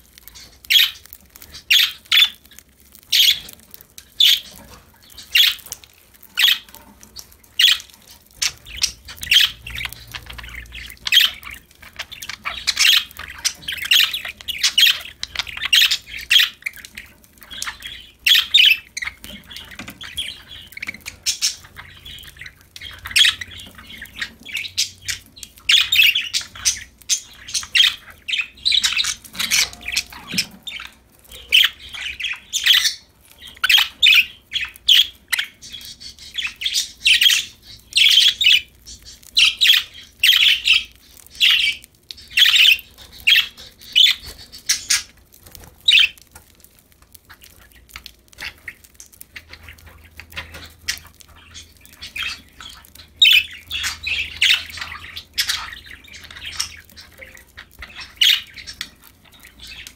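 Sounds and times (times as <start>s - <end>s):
budgerigars chirping: 0.1s - 59.9s.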